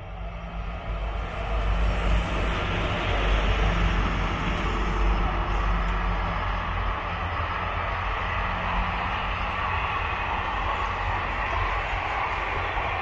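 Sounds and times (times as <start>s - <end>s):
diesel train passing: 0.0s - 13.0s.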